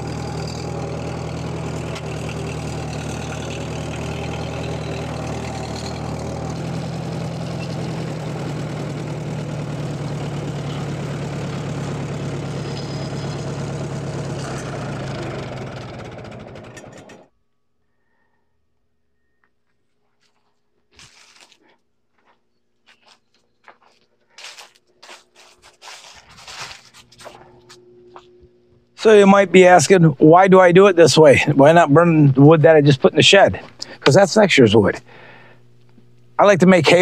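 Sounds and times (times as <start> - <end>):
tractor engine running: 0.0 - 17.3, 24.4 - 37.0.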